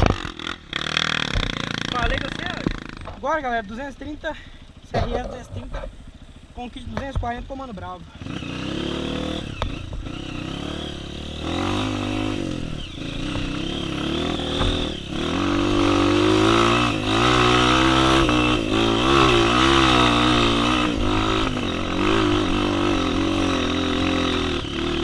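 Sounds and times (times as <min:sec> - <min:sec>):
trail bike engine revving: 0:00.0 - 0:25.0.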